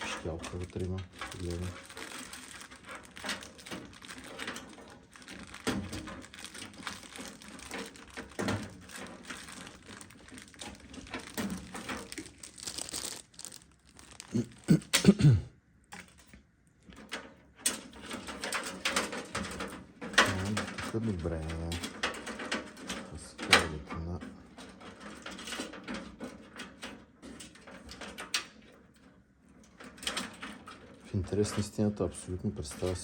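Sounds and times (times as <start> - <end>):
cables and plastic rustling: 0.0 - 15.2, 15.8 - 33.0.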